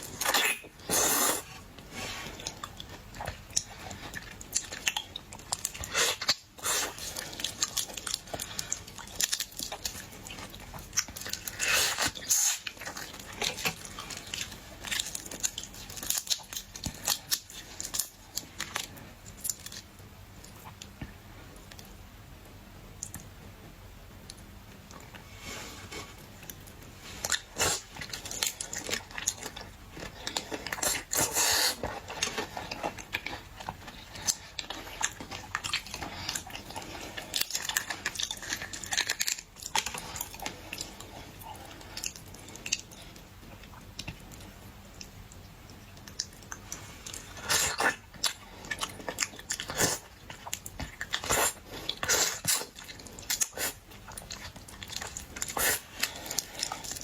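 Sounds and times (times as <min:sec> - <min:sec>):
person chewing crunchy food: 0:00.0 - 0:21.0, 0:24.9 - 0:57.0.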